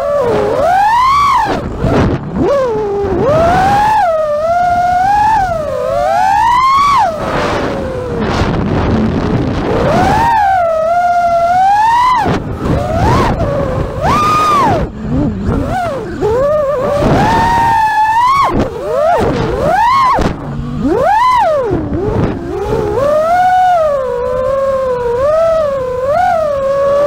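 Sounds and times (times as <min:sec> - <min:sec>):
drone motors whining: 0:00.0 - 0:27.0
low rumble of wind: 0:00.0 - 0:27.0.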